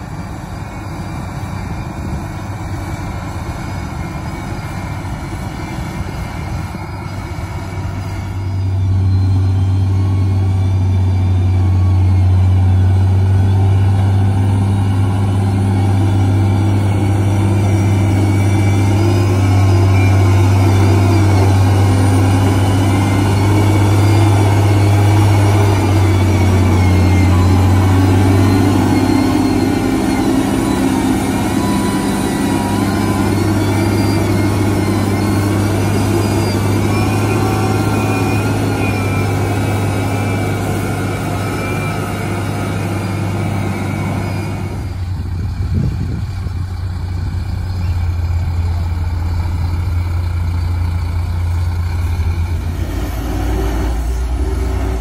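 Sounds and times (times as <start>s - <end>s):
diesel engine droning under load: 0.0s - 55.0s.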